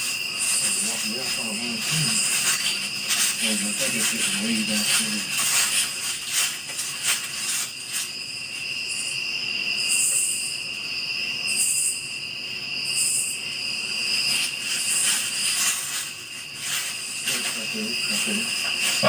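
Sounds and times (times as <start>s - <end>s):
crickets trilling: 0.0s - 19.0s
high-pitched insect buzzes: 0.0s - 19.0s.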